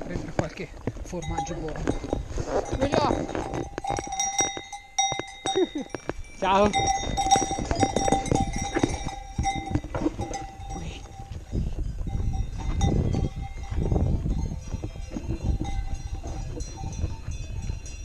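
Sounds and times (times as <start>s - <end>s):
cowbells clanking: 0.0s - 18.0s.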